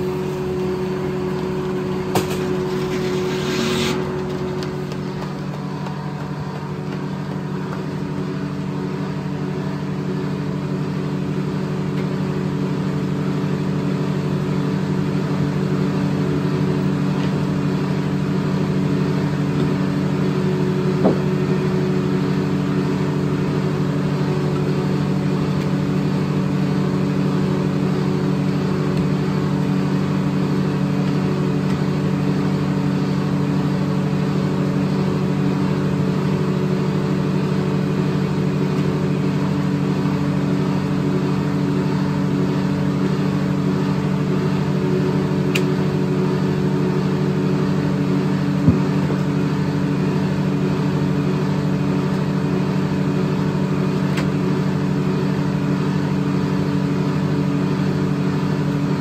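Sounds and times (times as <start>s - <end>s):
sawmill engine humming: 0.0s - 59.0s.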